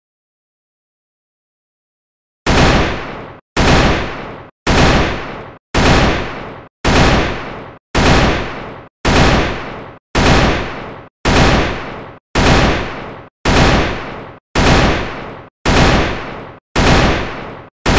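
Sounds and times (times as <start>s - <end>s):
gunfire: 2.5s - 17.9s.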